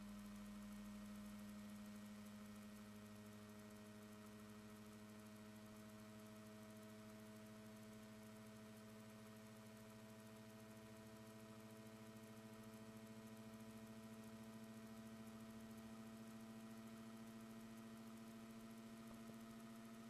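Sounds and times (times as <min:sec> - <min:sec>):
faint generator hum: 0:00.0 - 0:20.0.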